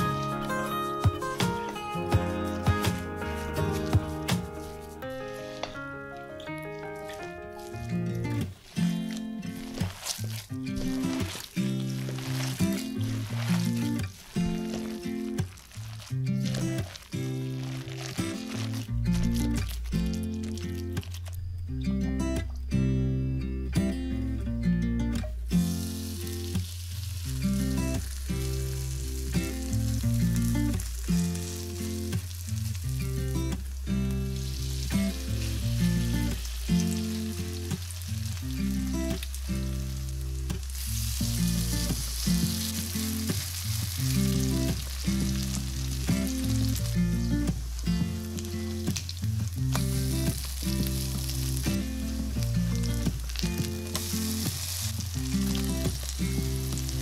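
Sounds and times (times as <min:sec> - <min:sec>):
batter sizzling in oil: 0:00.0 - 0:21.4, 0:25.6 - 0:57.0
soft background music: 0:00.0 - 0:57.0.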